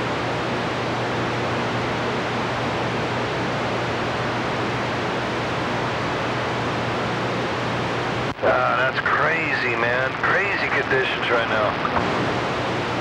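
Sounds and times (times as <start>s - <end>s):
radio static hiss: 0.1s - 13.0s.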